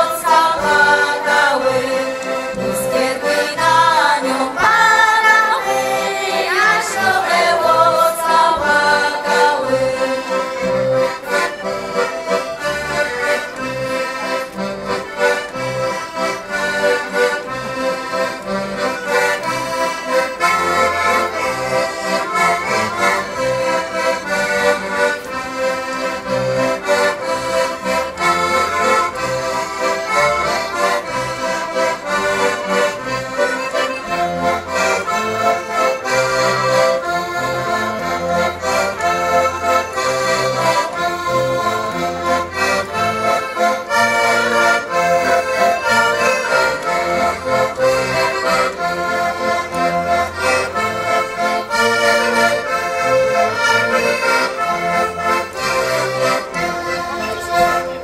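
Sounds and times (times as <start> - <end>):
button accordion ensemble folk tune: 0.0 - 58.0.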